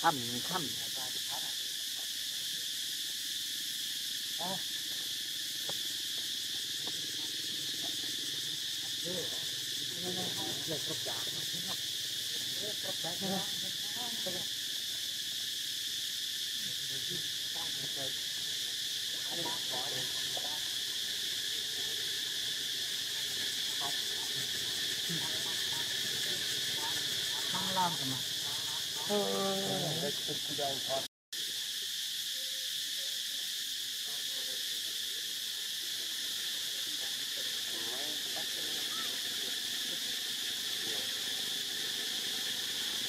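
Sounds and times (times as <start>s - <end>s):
high-pitched insect chorus: 0.0s - 43.0s.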